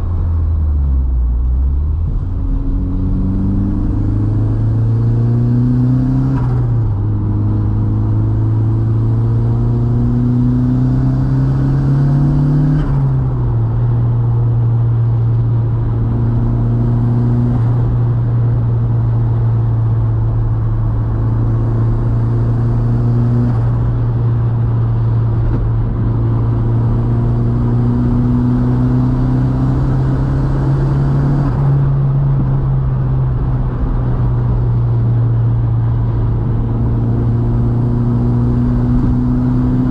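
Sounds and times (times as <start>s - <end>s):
car engine accelerating: 0.0s - 39.9s
tyre and road noise: 0.0s - 39.9s.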